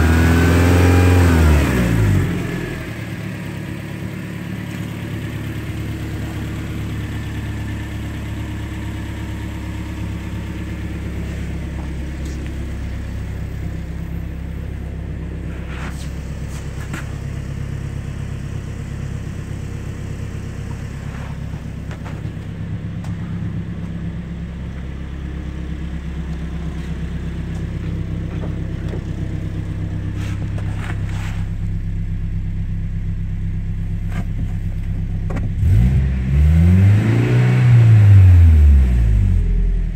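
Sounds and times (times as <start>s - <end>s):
car engine idling: 0.0s - 36.4s.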